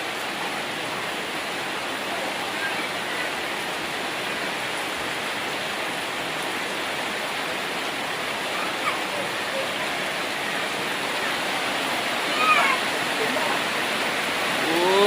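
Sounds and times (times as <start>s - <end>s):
heavy downpour: 0.0s - 15.0s
rushing floodwater: 0.0s - 15.0s.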